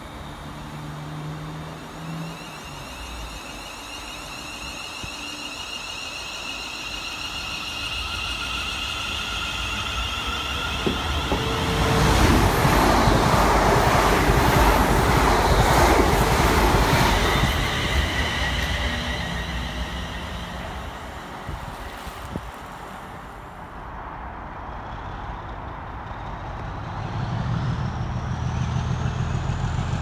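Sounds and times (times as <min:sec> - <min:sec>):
train high whine: 0:00.0 - 0:30.0
train wheels rumbling on rails: 0:00.0 - 0:30.0.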